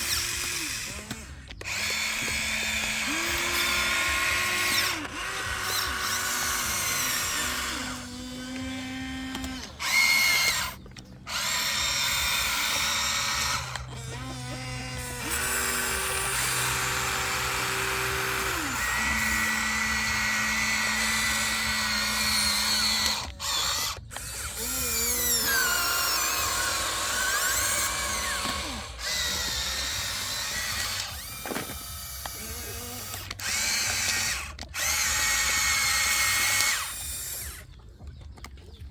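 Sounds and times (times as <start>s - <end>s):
small electric motors whining: 0.0s - 38.9s.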